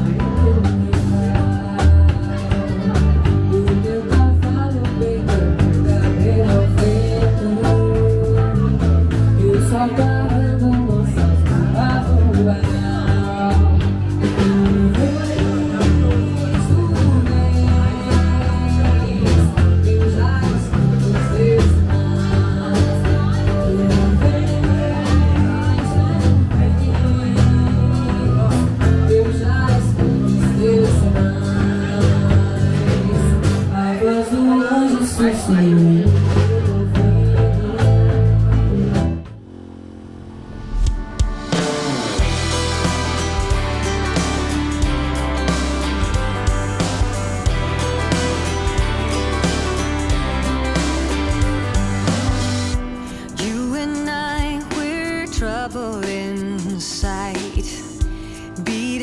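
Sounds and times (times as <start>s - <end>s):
steady drum beat: 0.0s - 33.8s, 35.3s - 59.0s
person singing: 0.0s - 39.3s, 40.7s - 59.0s
bass: 0.0s - 59.0s
guitar: 0.0s - 59.0s.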